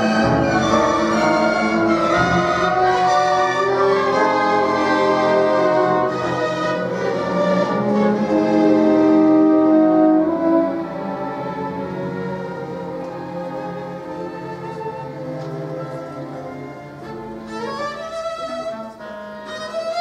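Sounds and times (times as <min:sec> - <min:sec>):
orchestra playing: 0:00.0 - 0:20.0
solo violin: 0:00.0 - 0:20.0.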